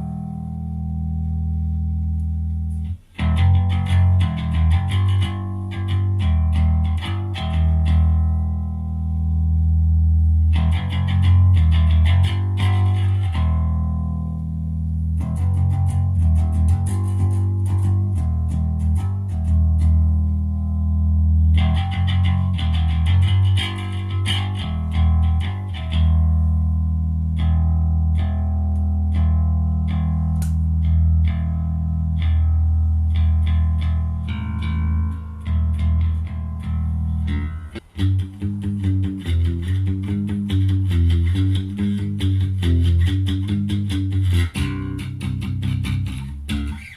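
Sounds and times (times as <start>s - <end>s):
electric bass guitar plucked notes: 0.0s - 46.9s.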